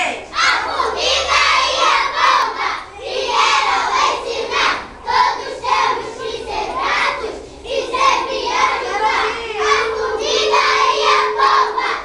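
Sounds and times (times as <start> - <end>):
children singing and shouting: 0.0 - 12.0.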